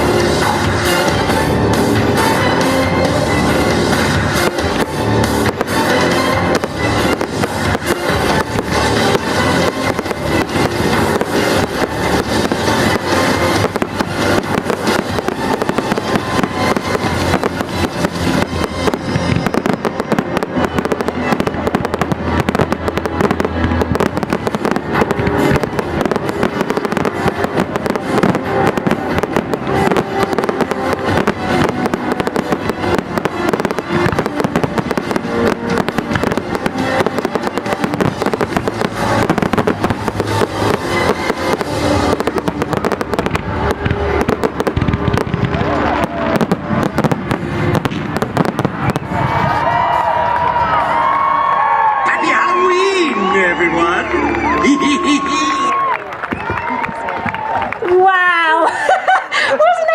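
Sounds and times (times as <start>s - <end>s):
music playing: 0.0s - 58.6s
fireworks bangs and crackles: 0.0s - 59.9s.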